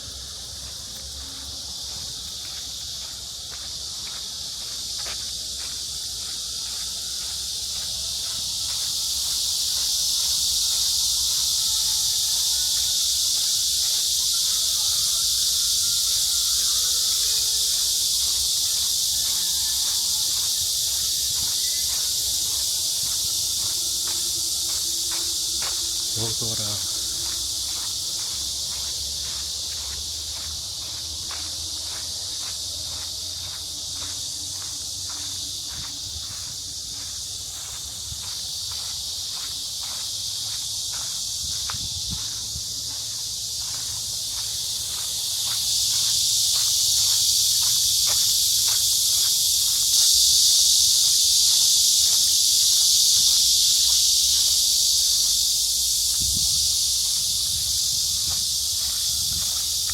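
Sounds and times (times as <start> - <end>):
cicadas chorus: 0.0 - 59.9
footsteps walking: 0.0 - 59.9.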